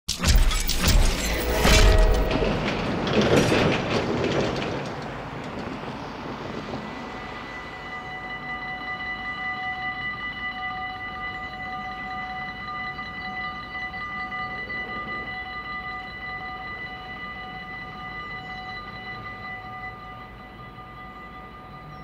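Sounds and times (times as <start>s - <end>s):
level crossing warning bell: 0.1s - 22.0s.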